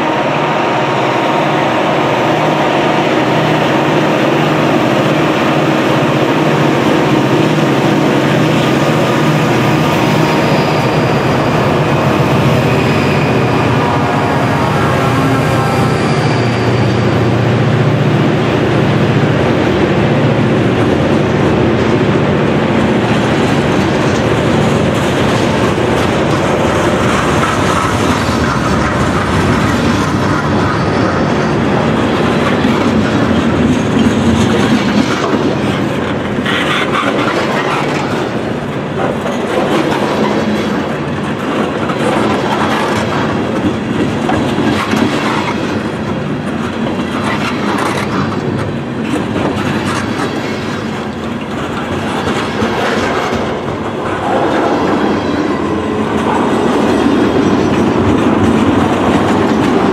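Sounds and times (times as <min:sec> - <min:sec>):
diesel locomotive hum: 0:00.0 - 0:59.9
train wheels clattering on rails: 0:00.0 - 0:59.9.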